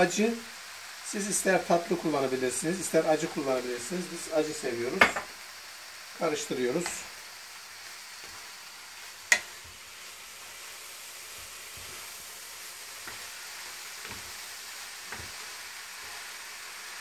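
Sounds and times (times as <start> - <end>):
greens sizzling in a pan: 0.0 - 17.0.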